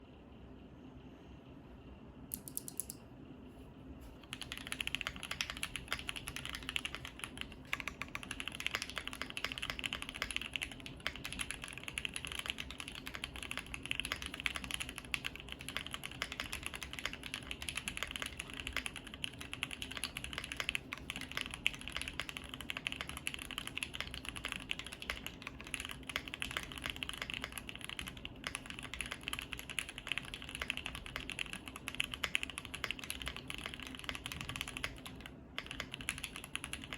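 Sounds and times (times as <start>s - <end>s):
mechanical keyboard typing: 4.2s - 36.9s.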